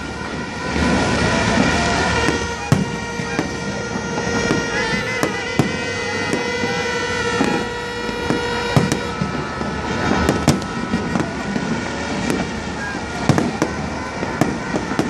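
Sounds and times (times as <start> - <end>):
crowd noise: 0.0 - 15.0
fireworks bangs: 0.0 - 15.0
horn-like drone: 0.0 - 15.0
street noise: 0.0 - 15.0.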